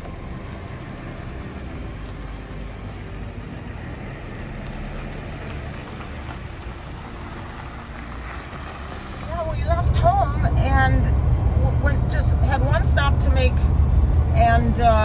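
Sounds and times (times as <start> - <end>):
engine hum: 0.0 - 15.0
road noise: 0.0 - 15.0.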